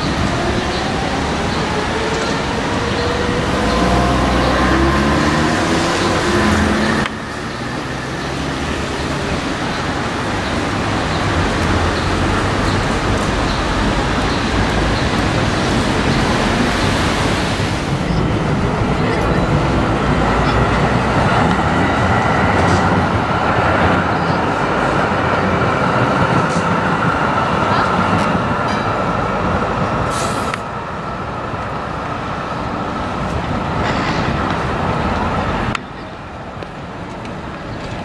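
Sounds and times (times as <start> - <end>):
street traffic with trams: 0.0 - 38.0.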